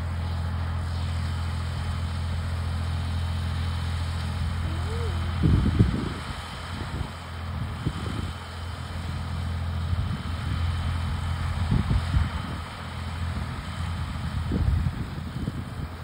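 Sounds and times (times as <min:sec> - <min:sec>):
tractor engine under load: 0:00.0 - 0:16.0.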